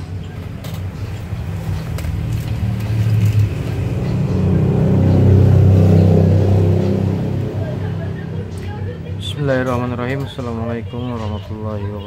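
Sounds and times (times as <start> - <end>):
vehicle engine passing: 0.0 - 10.1.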